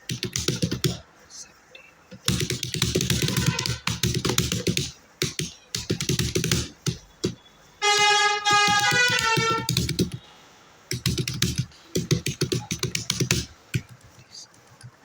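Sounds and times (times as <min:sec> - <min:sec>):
fast typing on keyboard: 0:00.0 - 0:01.0, 0:02.1 - 0:10.2, 0:10.9 - 0:15.0.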